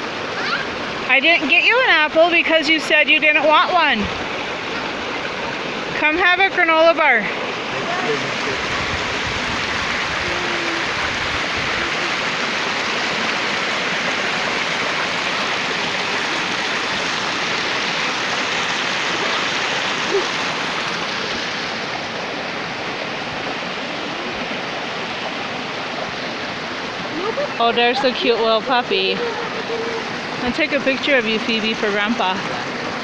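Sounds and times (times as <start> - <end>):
rushing water stream: 0.0 - 33.0.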